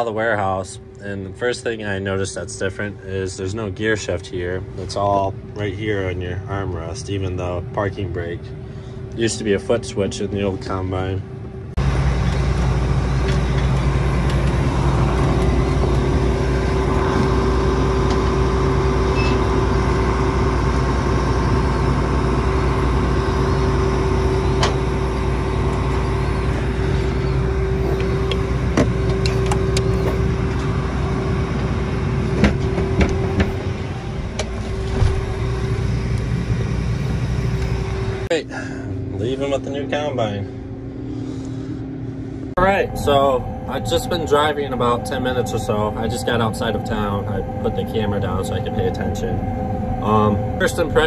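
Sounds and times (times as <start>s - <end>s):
diesel engine running with whine: 0.0s - 51.0s.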